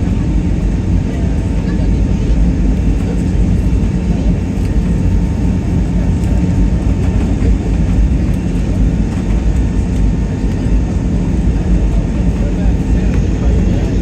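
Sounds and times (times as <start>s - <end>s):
jet engine cabin rumble: 0.0s - 14.0s.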